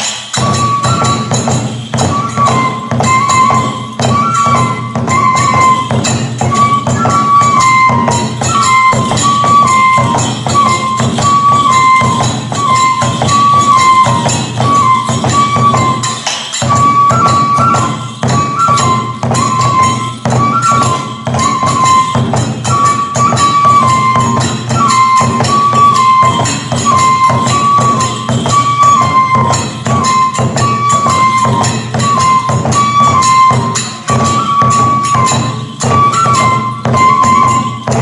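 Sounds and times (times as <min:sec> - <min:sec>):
bamboo flute melody: 0:00.0 - 0:38.0
jingling hand cymbals: 0:00.0 - 0:38.0
taiko drum beats: 0:00.0 - 0:38.0.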